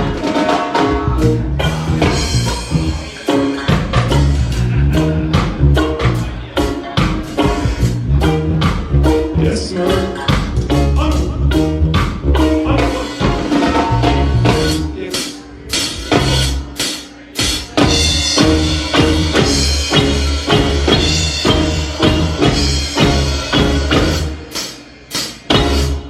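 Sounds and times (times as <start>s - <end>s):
drum kit beat: 0.0s - 26.0s
reggae band playing live: 0.0s - 26.0s
deep bass line: 0.8s - 16.8s, 17.8s - 24.5s, 25.4s - 26.0s.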